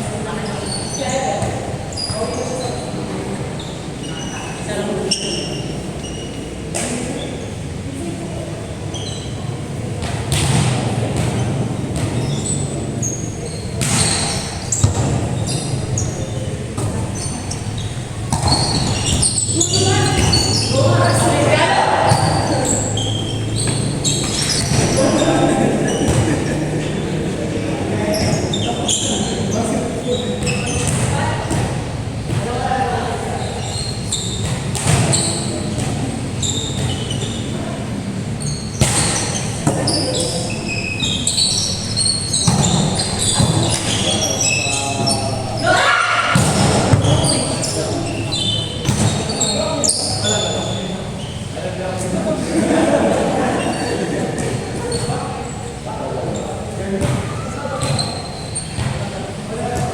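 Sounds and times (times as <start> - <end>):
hall background noise: 0.0 - 59.9
sneakers squeaking: 0.0 - 59.9.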